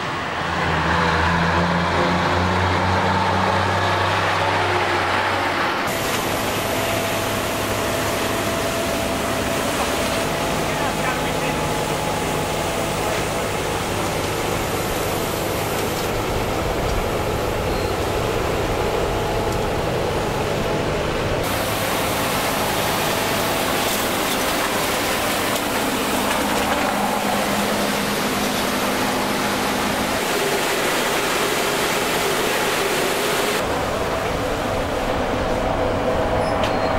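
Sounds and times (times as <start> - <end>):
street sweeper truck rushing noise: 0.0 - 36.9.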